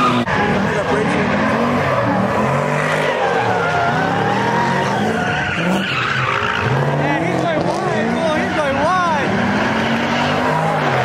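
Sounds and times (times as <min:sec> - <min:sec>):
car engine revving: 0:00.0 - 0:11.0
tyres squealing: 0:00.0 - 0:11.0.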